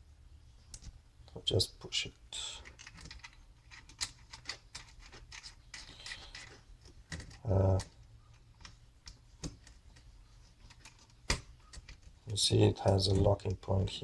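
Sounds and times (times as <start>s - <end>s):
plastic parts clicking and scratching: 2.5s - 14.0s.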